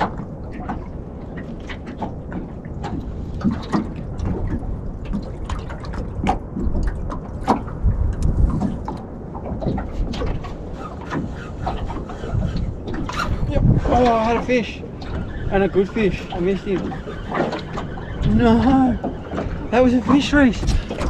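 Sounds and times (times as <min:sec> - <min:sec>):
waves slapping against boat hull: 0:00.0 - 0:21.0
wind rumble on microphone: 0:00.0 - 0:21.0.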